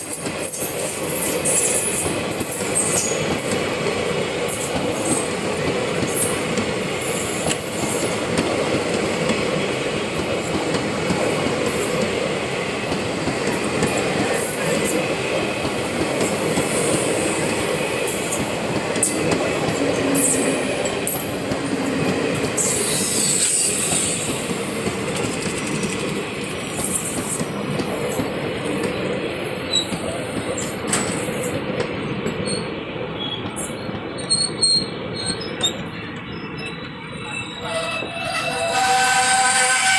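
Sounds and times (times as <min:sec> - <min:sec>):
train wheels clattering on rails: 0:00.0 - 0:37.4.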